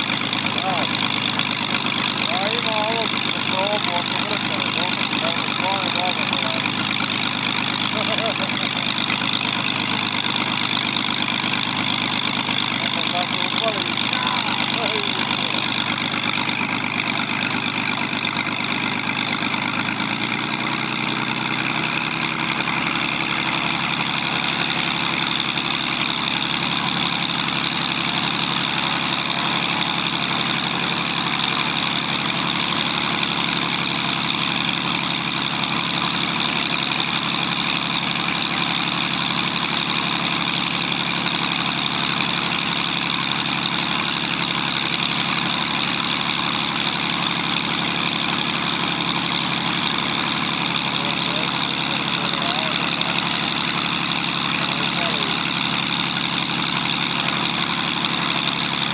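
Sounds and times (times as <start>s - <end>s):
aircraft engine idling: 0.0s - 58.9s.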